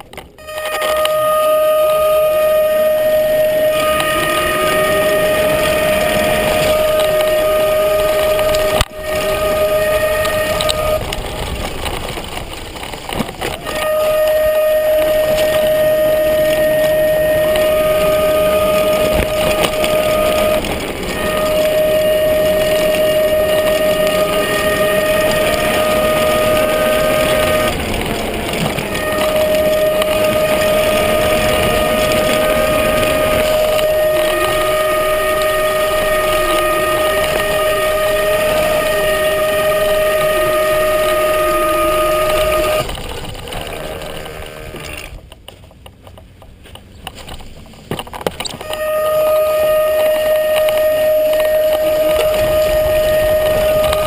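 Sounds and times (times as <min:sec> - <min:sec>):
wheels rumbling on rough ground: 0:00.0 - 0:54.0
electric motor whine: 0:00.4 - 0:45.2, 0:48.6 - 0:54.0.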